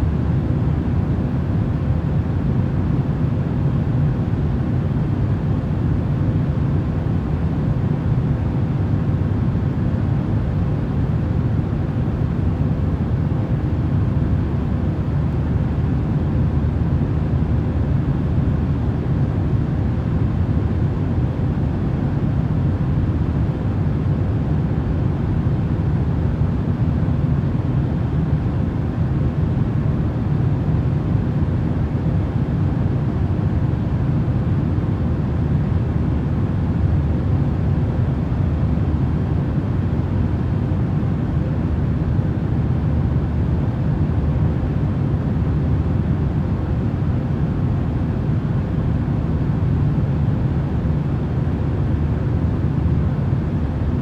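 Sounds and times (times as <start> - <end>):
deep rumbling white noise: 0.0 - 54.0
faint steady hum: 0.0 - 54.0.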